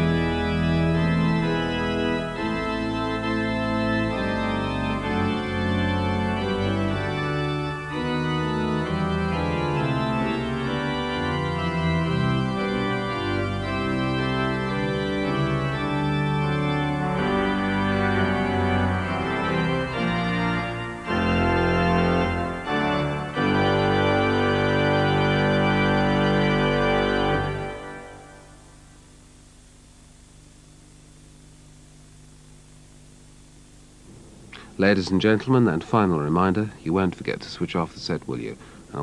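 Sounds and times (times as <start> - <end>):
organ chords: 0.0 - 39.0
tape hiss: 0.0 - 39.0.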